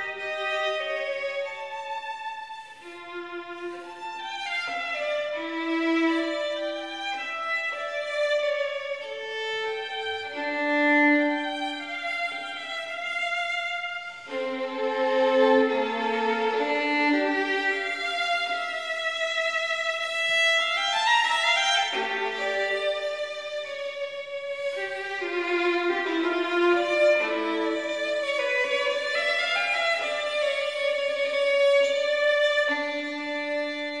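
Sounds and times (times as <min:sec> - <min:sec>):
violin playing held notes: 0:00.0 - 0:34.0.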